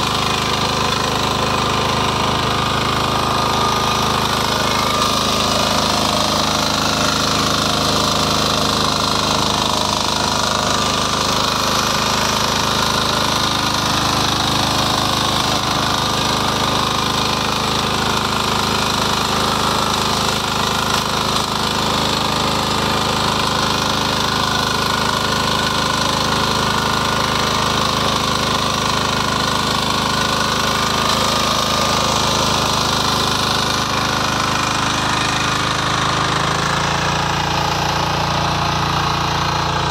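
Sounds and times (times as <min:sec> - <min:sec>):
power weeder engine running: 0:00.0 - 0:39.9.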